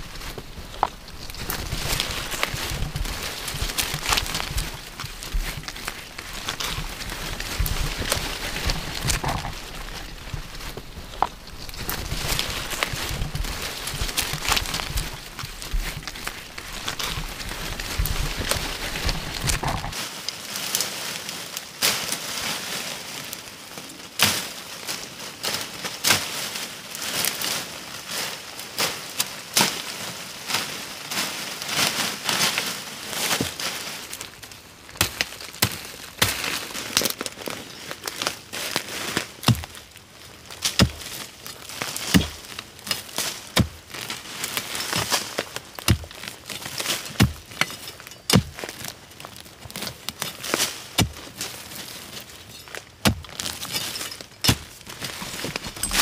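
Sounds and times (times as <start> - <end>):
dry leaves crackling and rustling: 0.0 - 56.0.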